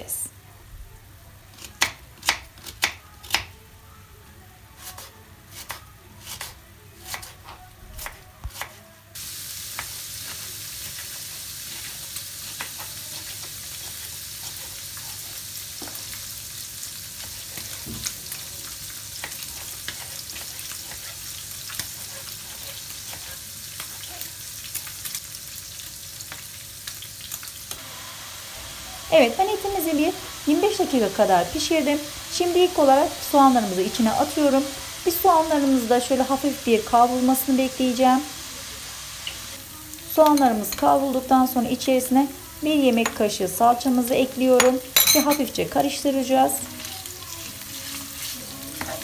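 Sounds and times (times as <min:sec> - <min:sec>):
meat sizzling in a pan: 0:09.1 - 0:49.0.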